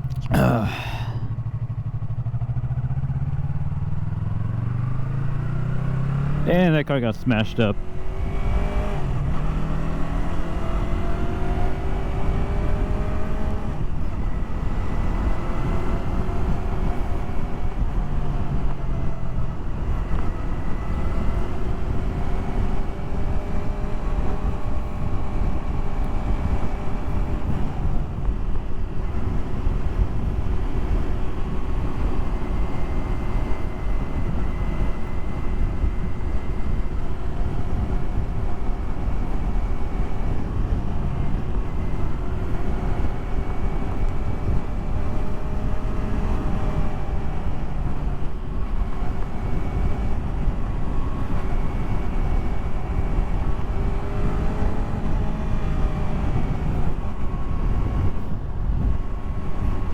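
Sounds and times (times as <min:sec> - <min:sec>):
motorcycle engine revving: 0:01.4 - 0:06.4, 0:07.8 - 0:59.9
wind rumble on microphone: 0:08.0 - 0:59.9.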